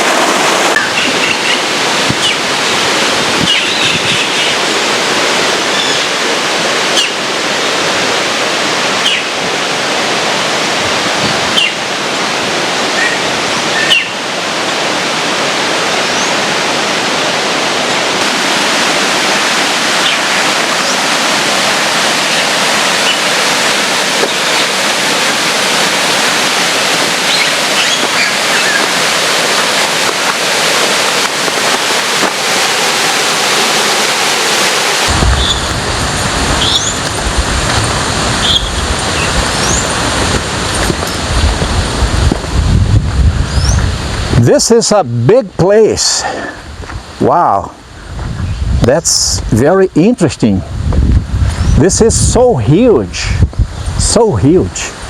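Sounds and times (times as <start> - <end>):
small waterfall rushing: 0.0 - 50.6, 51.2 - 55.0.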